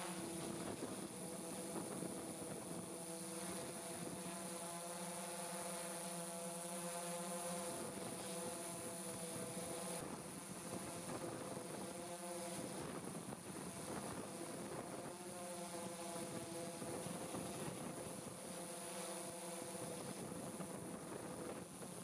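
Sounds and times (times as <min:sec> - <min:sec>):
drone propellers buzzing: 0:00.0 - 0:21.9.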